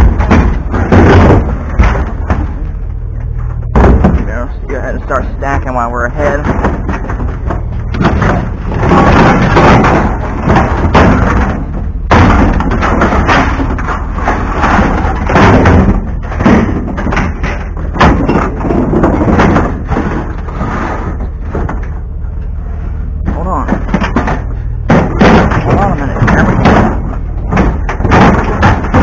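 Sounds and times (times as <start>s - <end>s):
scrap metal clattering in truck bed: 0.0s - 29.0s.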